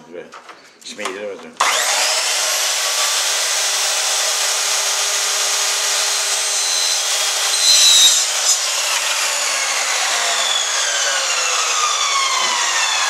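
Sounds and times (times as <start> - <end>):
miter saw cutting board: 1.6 - 13.0.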